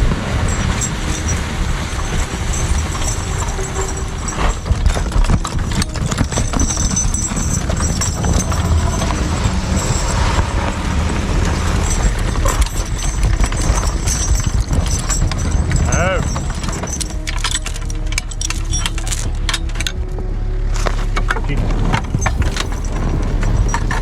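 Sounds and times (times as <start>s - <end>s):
horse hooves clopping: 0.0s - 20.2s, 20.8s - 24.0s
steady low rumble: 0.0s - 24.0s.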